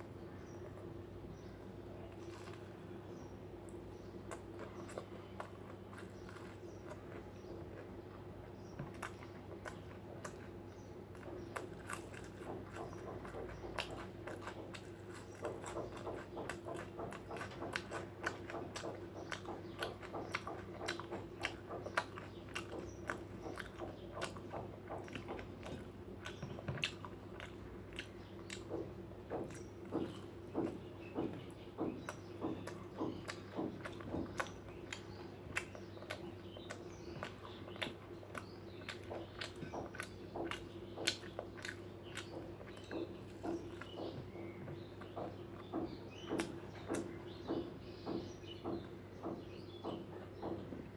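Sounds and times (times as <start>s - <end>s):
chewing and biting food: 0.0s - 50.9s
low steady hum: 0.0s - 50.9s.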